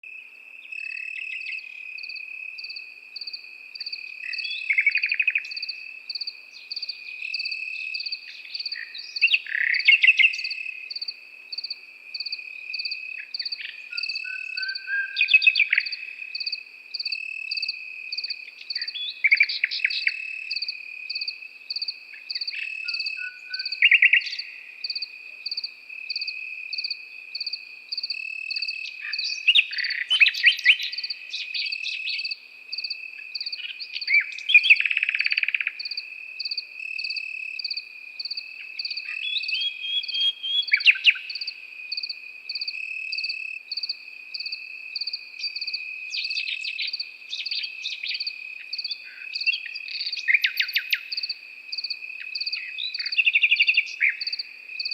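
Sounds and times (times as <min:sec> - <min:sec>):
nightingale singing: 0:00.0 - 0:54.9
crickets trilling: 0:00.1 - 0:54.9.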